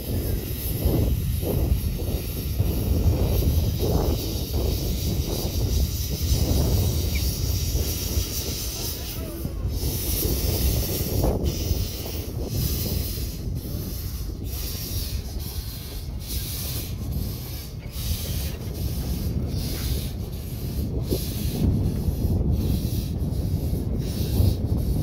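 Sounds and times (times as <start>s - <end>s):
steam locomotive chuffing: 0.0s - 25.0s
wind on microphone: 0.0s - 25.0s.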